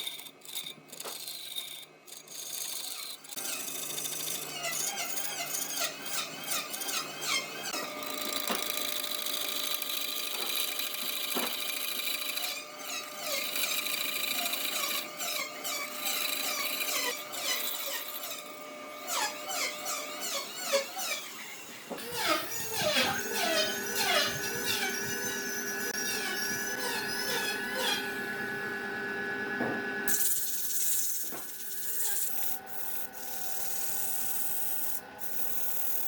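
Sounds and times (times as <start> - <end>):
power tool whining: 3.0 - 36.0.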